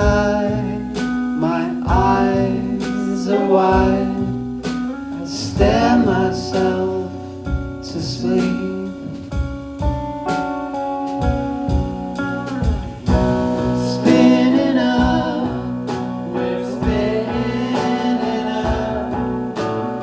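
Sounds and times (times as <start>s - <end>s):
guitar playing: 0.0s - 20.0s
live band music: 0.0s - 20.0s.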